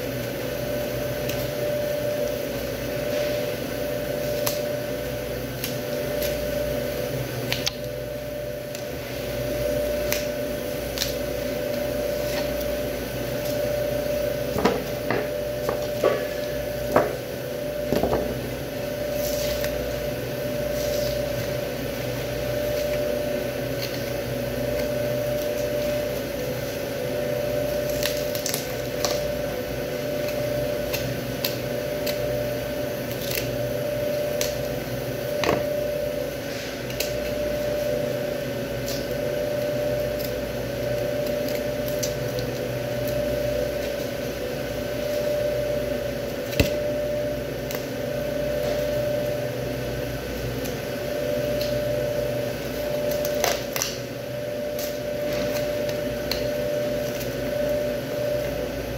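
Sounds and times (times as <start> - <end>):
machine hum with held tone: 0.0 - 58.9.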